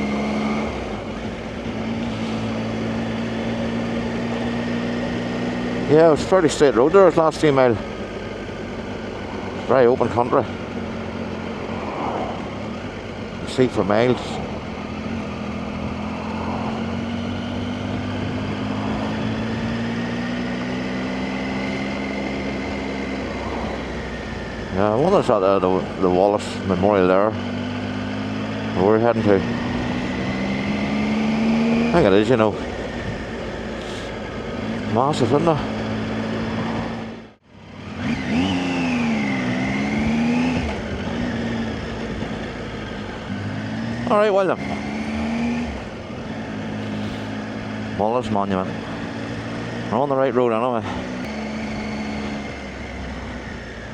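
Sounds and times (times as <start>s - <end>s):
motorcycle engine cruising: 0.0s - 53.9s
wind and road noise: 0.0s - 53.9s.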